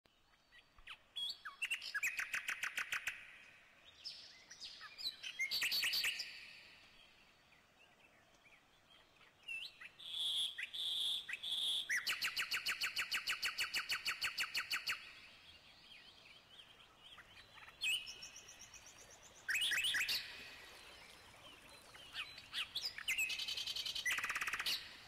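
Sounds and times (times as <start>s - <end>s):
songbirds singing and chirping: 0.1s - 25.0s.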